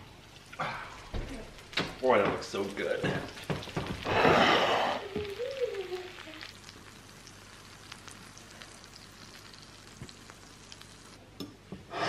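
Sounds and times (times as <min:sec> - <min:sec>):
juices sizzling and crackling: 0:00.0 - 0:12.0.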